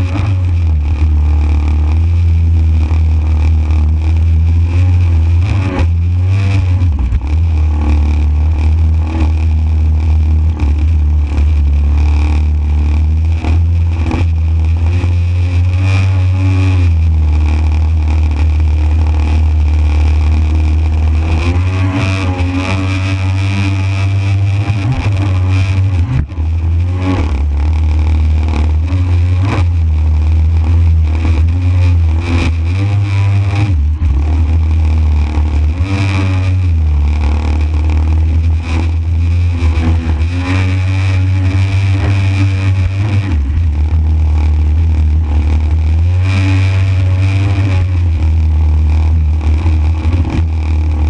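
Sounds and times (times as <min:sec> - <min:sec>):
jet surfboard engine running: 0:00.0 - 0:51.0.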